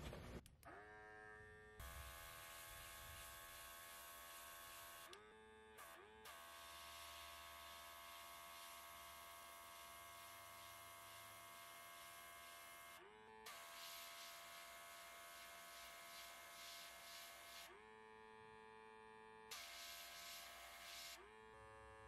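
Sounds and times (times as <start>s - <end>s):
airbrush compressor motor whine: 0.7s - 22.0s.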